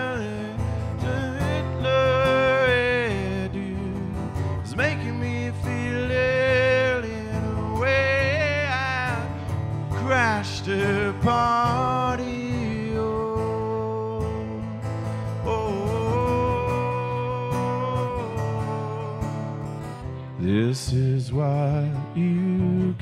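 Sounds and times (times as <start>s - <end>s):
acoustic guitar: 0.0s - 23.0s
man singing: 0.0s - 23.0s.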